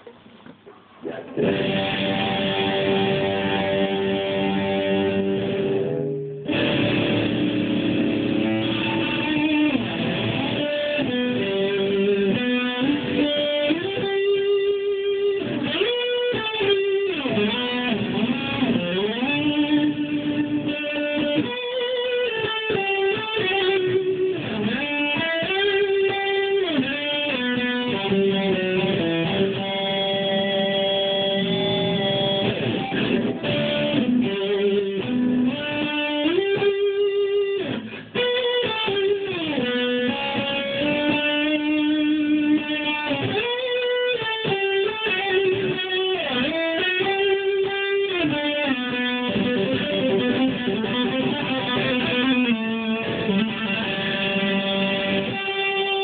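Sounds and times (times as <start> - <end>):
electric guitar with string bends: 0.0 - 56.0.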